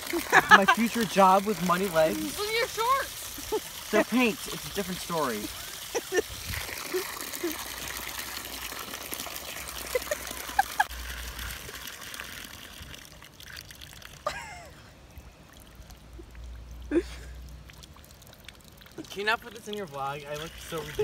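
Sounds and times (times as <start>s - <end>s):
water splattering onto ground: 0.0s - 14.8s, 15.5s - 21.0s.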